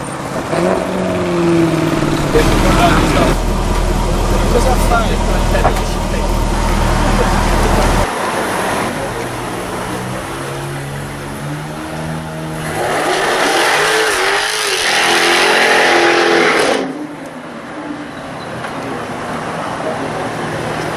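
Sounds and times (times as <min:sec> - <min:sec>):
car engine accelerating hard: 0:00.0 - 0:17.1.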